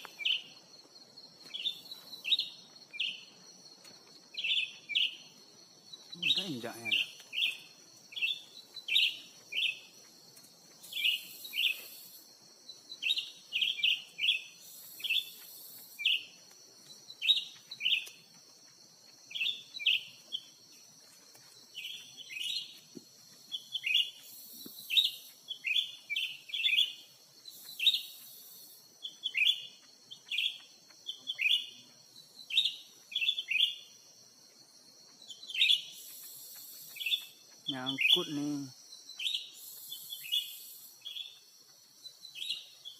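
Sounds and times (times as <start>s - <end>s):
birds chirping: 0.0s - 18.3s, 19.0s - 34.0s, 35.0s - 42.9s.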